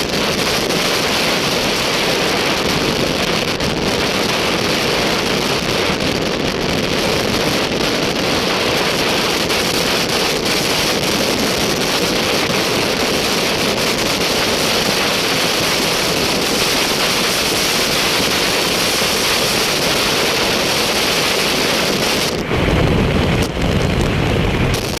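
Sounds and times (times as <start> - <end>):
wind and vehicle rushing noise: 0.0 - 25.0.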